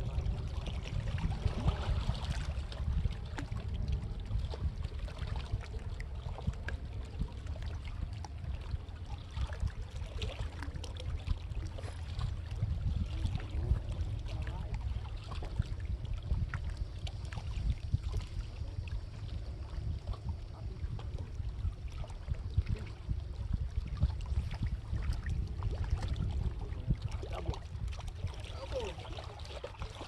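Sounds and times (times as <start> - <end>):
light water noise: 0.0 - 30.0
wind buffeting microphone: 0.0 - 30.0.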